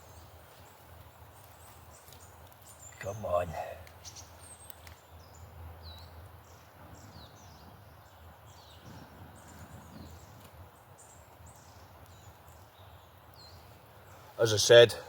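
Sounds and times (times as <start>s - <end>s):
small bird chirping: 0.0s - 14.7s.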